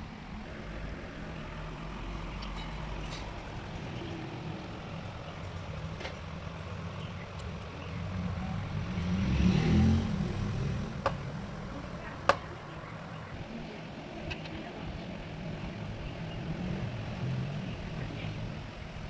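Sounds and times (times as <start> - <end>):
small engine rumbling: 0.0 - 19.0.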